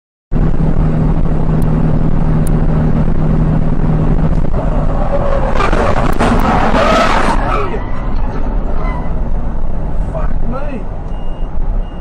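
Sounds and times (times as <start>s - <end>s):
vehicle engine and road noise: 0.3s - 12.0s
higher shifting noise: 0.4s - 10.9s.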